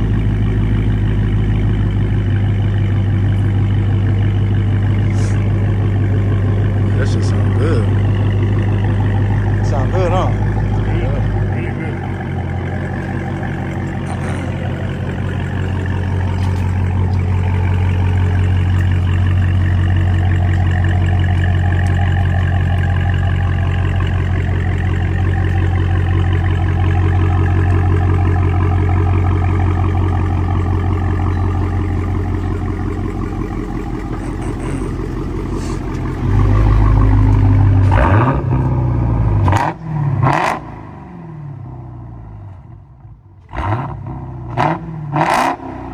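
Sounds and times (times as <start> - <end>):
loud car exhaust drone: 0.0 - 45.9.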